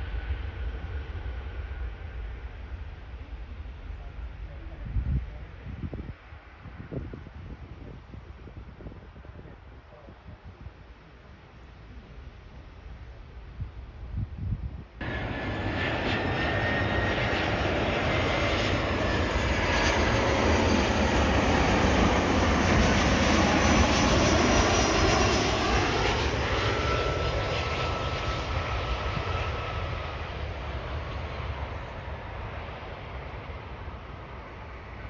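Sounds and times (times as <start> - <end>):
jet airliner engine whine: 0.0 - 35.0.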